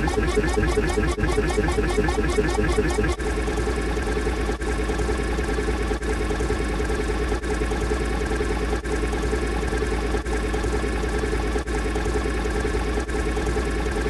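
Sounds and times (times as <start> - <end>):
engine-like drone: 0.0 - 14.0.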